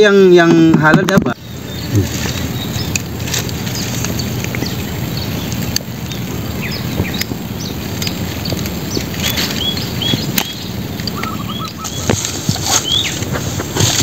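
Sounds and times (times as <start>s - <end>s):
birds chirping: 0.0s - 14.0s
low rumbling noise: 0.0s - 14.0s.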